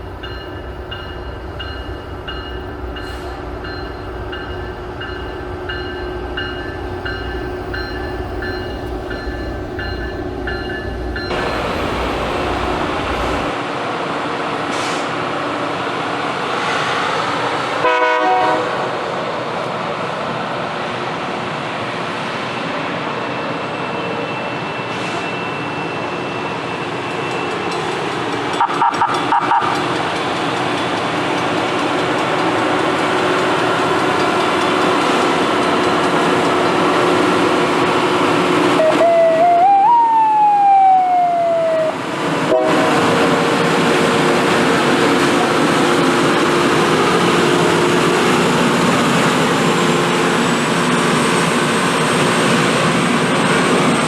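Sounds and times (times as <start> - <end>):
rail grinding rushing noise: 0.0 - 54.0.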